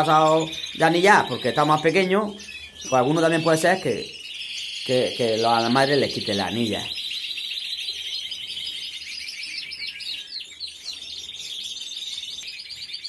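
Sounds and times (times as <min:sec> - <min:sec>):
canaries singing trills: 0:00.0 - 0:13.0.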